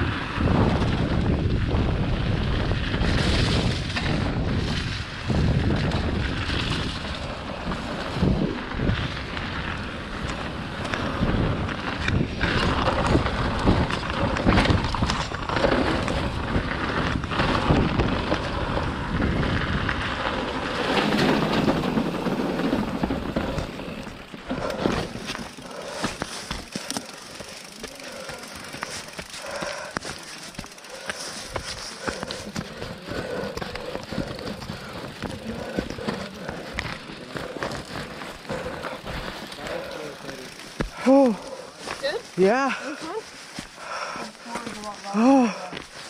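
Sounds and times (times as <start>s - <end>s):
wind buffeting microphone: 0.0s - 44.2s
bike rattling and clicking: 0.0s - 46.0s
bike tyres on dirt trail: 0.0s - 46.0s.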